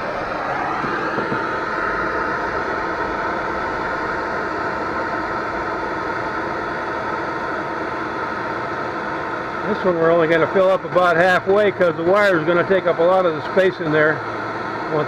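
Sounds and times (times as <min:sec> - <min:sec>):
heat gun fan motor running: 0:00.0 - 0:15.0.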